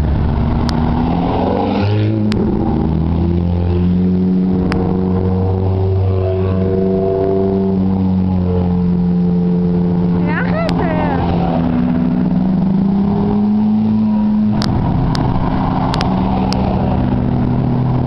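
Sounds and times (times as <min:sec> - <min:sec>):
sports cars driving past: 0:00.0 - 0:18.0.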